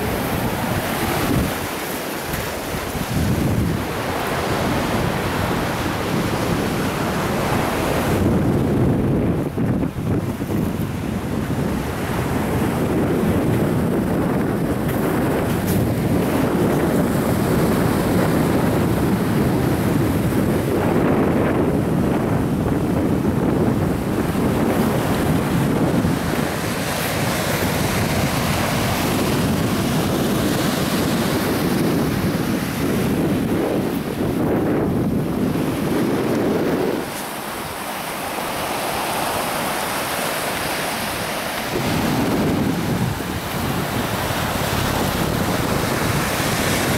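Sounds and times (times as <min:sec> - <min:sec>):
small waves washing onto beach: 0:00.0 - 0:46.9
wind buffeting the microphone: 0:00.0 - 0:46.9.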